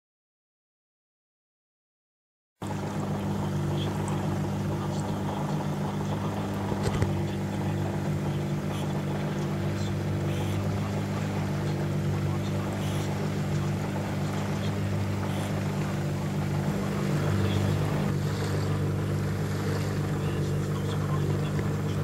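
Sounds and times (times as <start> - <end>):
boat engine droning: 2.6 - 22.0.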